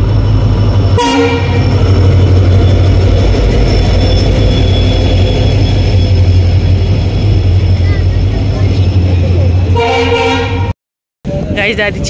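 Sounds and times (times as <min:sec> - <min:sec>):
train rumbling: 0:00.0 - 0:10.7, 0:11.3 - 0:12.0.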